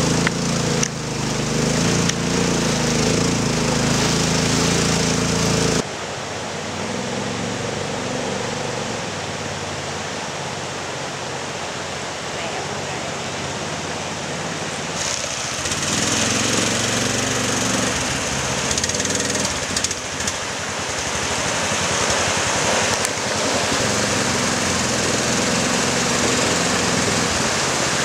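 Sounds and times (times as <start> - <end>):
small boat engine running: 0.0 - 28.0.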